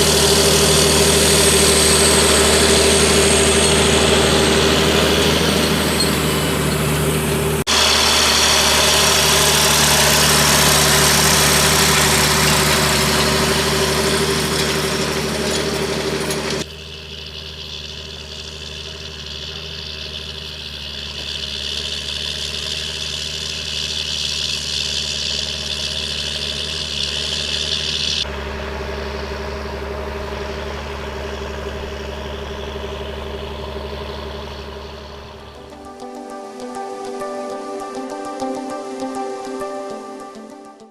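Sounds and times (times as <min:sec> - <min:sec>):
tractor diesel engine running: 0:00.0 - 0:40.6.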